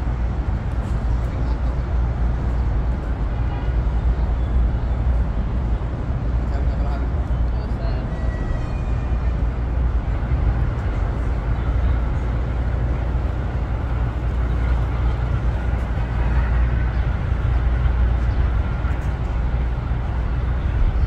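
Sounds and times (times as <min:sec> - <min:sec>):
low city rumble: 0:00.0 - 0:21.0.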